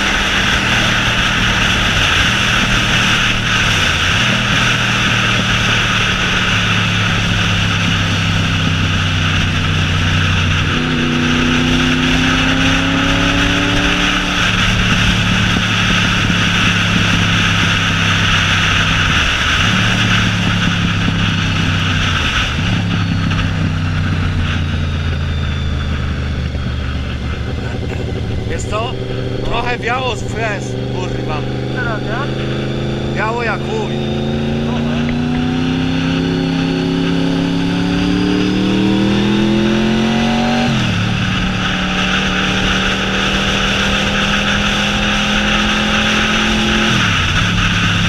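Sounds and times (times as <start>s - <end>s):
tone rising in pitch: 0.0s - 17.3s, 19.7s - 47.6s
motorcycle engine running: 0.0s - 48.0s.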